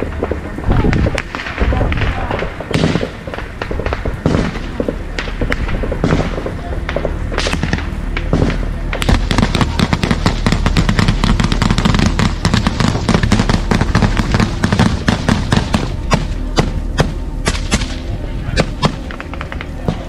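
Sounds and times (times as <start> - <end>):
rifle and machine-gun fire: 0.0 - 18.0.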